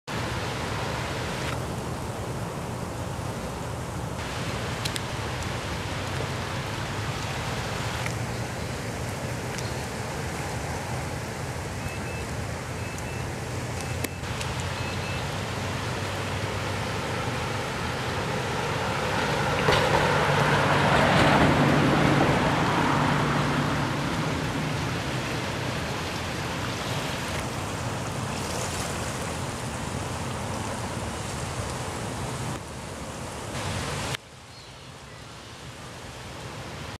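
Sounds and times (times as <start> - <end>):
floodwater rushing in a creek: 0.0 - 36.9.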